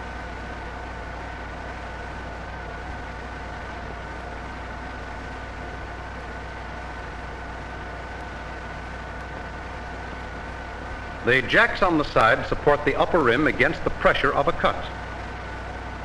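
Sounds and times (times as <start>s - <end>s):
faint high whine: 0.0s - 16.0s
film soundtrack hiss and hum: 0.0s - 16.0s.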